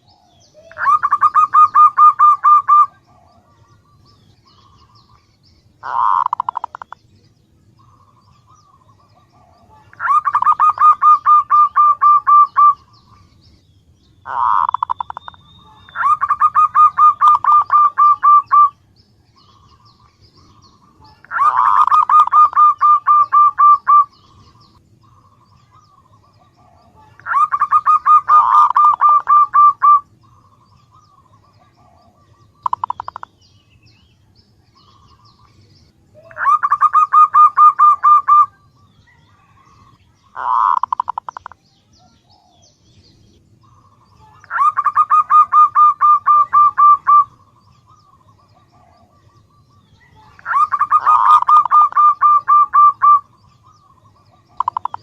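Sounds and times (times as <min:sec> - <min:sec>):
dove calling staccato notes: 0:00.0 - 0:07.1, 0:07.7 - 0:13.4, 0:14.1 - 0:33.5, 0:36.2 - 0:38.7, 0:39.4 - 0:41.6, 0:43.6 - 0:55.0.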